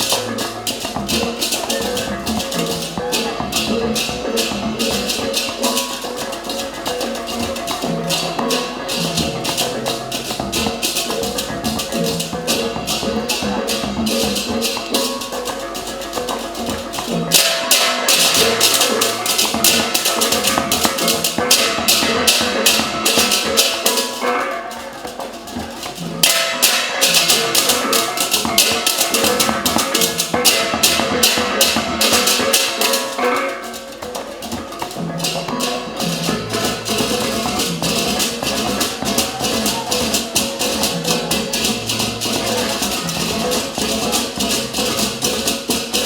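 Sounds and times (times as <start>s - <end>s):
gamelan ensemble playing: 0.0s - 46.0s
metallic cymbal-like strokes: 0.0s - 46.0s
ringing metallophone tones: 0.0s - 46.0s.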